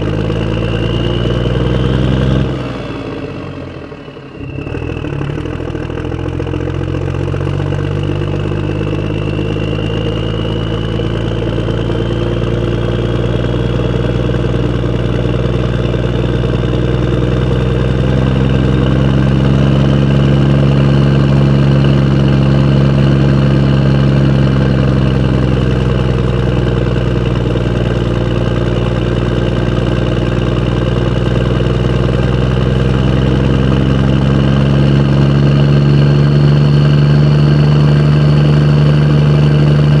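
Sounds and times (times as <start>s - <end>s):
vehicle engine running: 0.0s - 40.0s.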